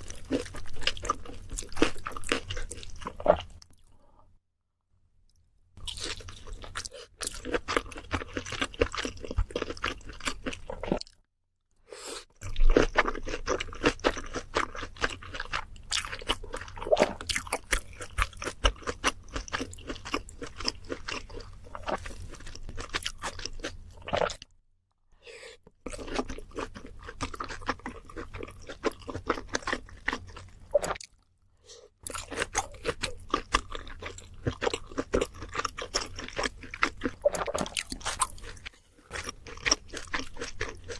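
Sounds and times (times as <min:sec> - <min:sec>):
fried food crunching: 0:00.0 - 0:03.9, 0:05.8 - 0:11.2, 0:12.4 - 0:24.5, 0:25.9 - 0:31.3, 0:32.0 - 0:40.9
steady chewing: 0:00.0 - 0:03.9, 0:05.8 - 0:11.2, 0:12.4 - 0:24.4, 0:25.8 - 0:31.2, 0:31.8 - 0:40.9.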